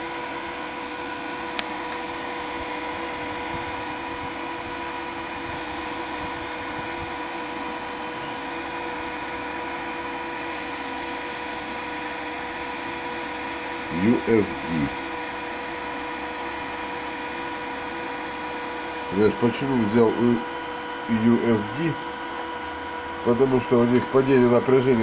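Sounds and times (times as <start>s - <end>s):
steady hum: 0.0s - 25.0s
welding inverter fan whir: 0.0s - 25.0s.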